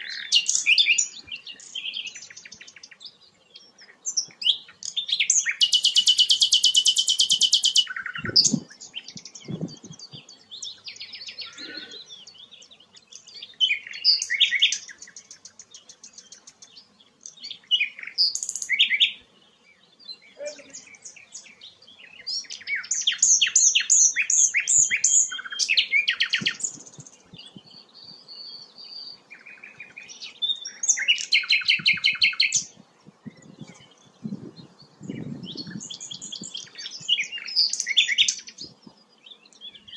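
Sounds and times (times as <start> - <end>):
songbird trills and whistles: 0.0 - 19.2, 20.3 - 39.9.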